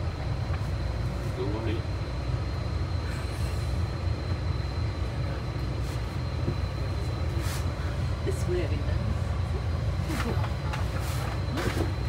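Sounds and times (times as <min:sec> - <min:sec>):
moving bus rumble: 0:00.0 - 0:12.0.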